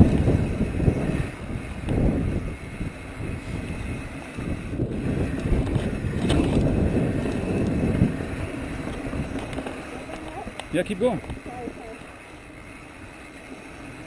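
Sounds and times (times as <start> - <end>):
wind buffeting microphone: 0.0 - 13.2
bike tyres rolling over dirt: 0.0 - 14.0.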